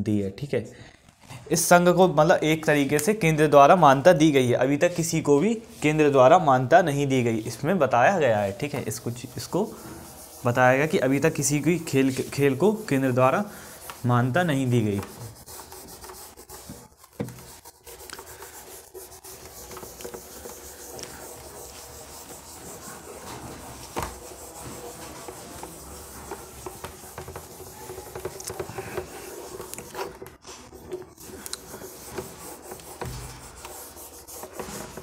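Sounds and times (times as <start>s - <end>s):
duster rubbing on whiteboard: 3.6s - 35.0s.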